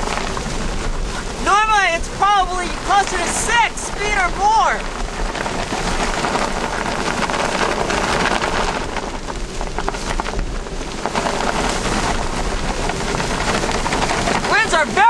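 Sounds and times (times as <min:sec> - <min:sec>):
driving rain: 0:00.0 - 0:15.0
strong wind: 0:00.0 - 0:15.0.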